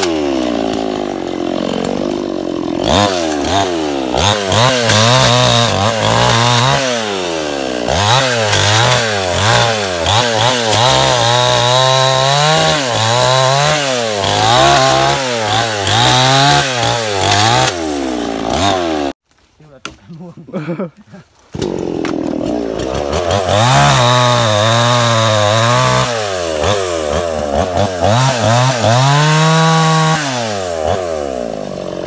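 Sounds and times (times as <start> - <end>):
chainsaw cutting wood: 0.0 - 19.2, 21.5 - 32.0.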